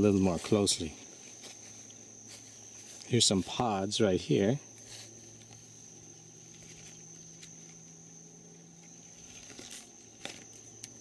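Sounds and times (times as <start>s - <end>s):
high-pitched whine: 0.0s - 11.0s
low hum: 0.0s - 11.0s.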